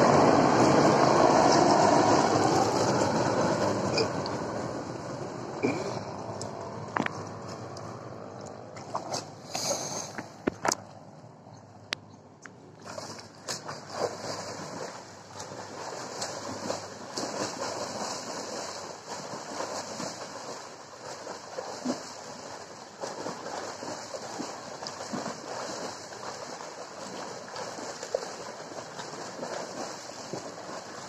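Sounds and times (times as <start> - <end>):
swimmer splashing water: 0.0 - 11.1, 12.7 - 31.0.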